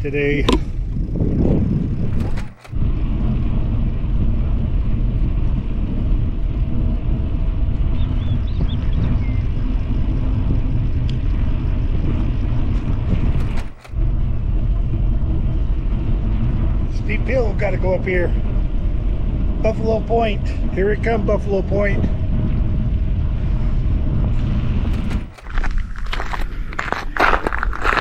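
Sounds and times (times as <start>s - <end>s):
road noise: 0.0s - 28.0s
wind buffeting: 0.0s - 28.0s.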